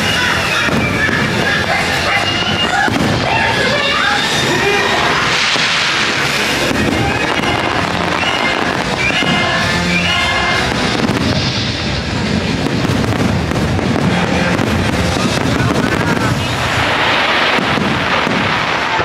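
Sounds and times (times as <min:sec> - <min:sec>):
music soundtrack: 0:00.0 - 0:17.0
fireworks bursting: 0:00.0 - 0:19.0.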